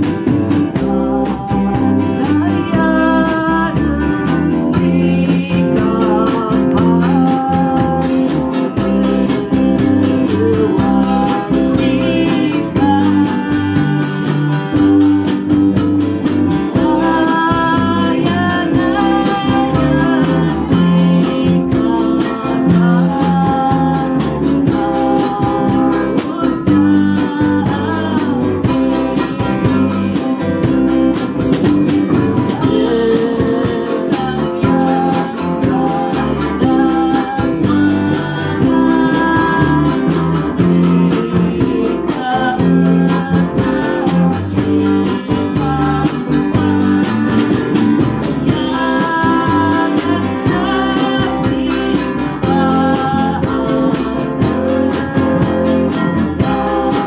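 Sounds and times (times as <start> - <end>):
drums: 0.0 - 57.0
electric guitar: 0.0 - 57.0
strummed acoustic guitar: 0.0 - 57.0
woman singing into a microphone: 0.0 - 57.0.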